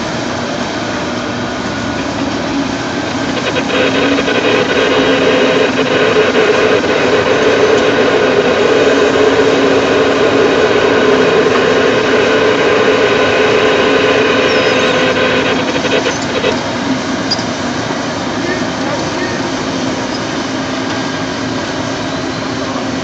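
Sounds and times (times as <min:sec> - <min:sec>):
excavator diesel engine running: 0:00.0 - 0:23.0
hydraulics droning: 0:00.0 - 0:23.0.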